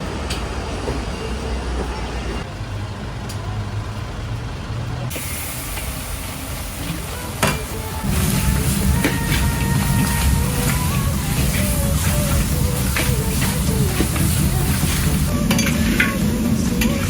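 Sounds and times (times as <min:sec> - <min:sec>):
traffic rumble of passing vehicles: 0:00.0 - 0:17.0.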